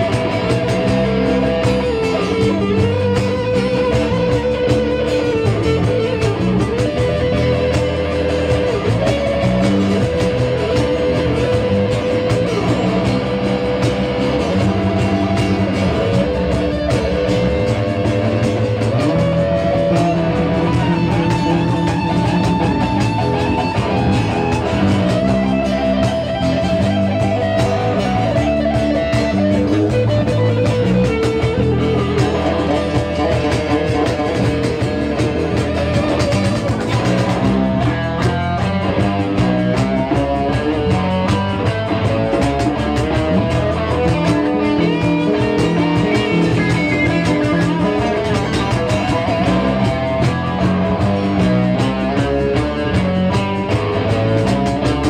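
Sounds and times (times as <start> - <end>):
electric guitar bending notes: 0.0 - 55.0
live rock band playing: 0.0 - 55.0.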